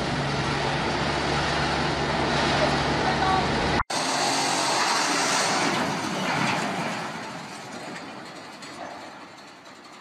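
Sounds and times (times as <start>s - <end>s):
crane rumbling and rattling metal: 0.0s - 10.0s.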